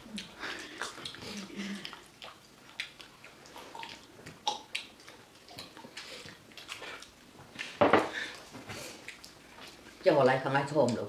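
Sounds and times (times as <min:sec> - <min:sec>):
chewing and lip-smacking: 0:00.0 - 0:10.0.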